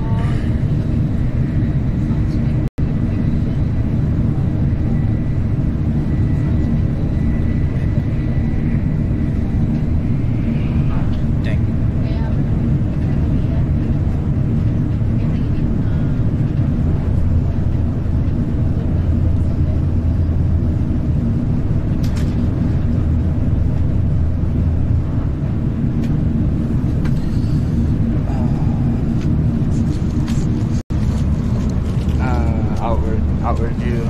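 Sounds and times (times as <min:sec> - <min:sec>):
train rumble inside cabin: 0:00.0 - 0:34.0.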